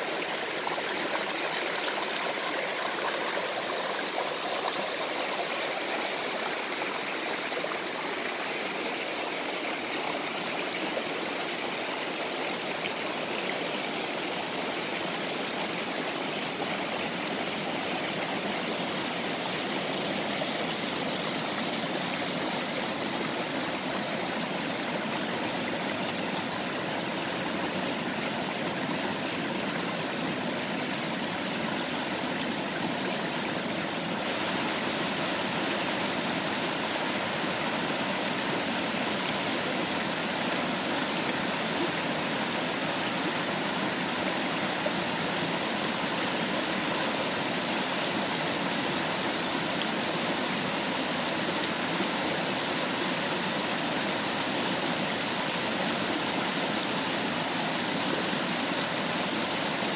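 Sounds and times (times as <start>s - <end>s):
stream rushing over waterfall: 0.0s - 59.9s.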